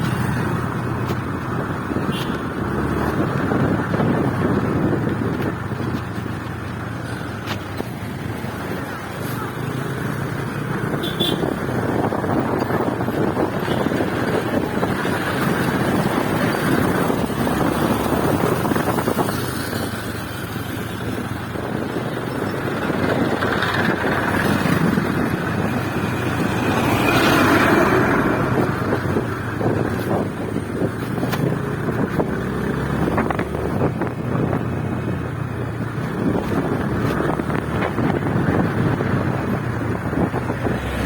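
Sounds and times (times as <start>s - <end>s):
motorcycle running: 0.0s - 41.0s
wind rushing over microphone: 0.0s - 41.0s.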